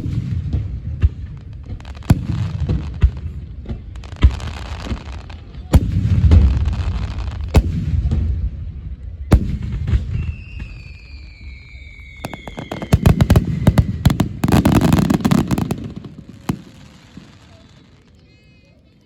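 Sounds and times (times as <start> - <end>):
firework bangs: 0.0 - 18.1
low rumble of fireworks: 0.0 - 19.0.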